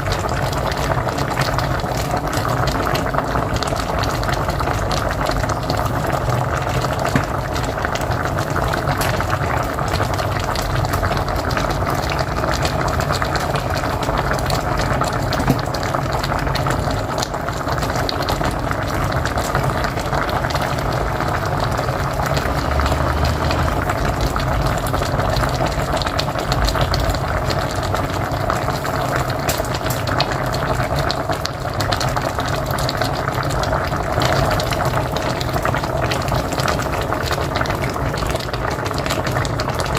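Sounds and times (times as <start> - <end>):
pot boiling and bubbling: 0.0 - 39.9.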